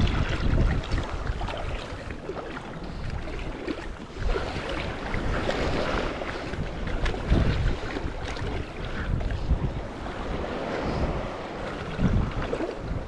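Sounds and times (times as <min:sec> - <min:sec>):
small waves lapping and splashing: 0:00.0 - 0:13.0
wind buffeting microphone: 0:00.0 - 0:13.0.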